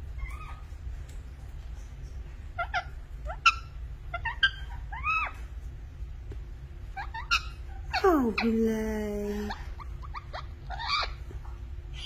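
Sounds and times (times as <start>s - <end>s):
parakeet chirping and chattering: 0.0s - 12.0s.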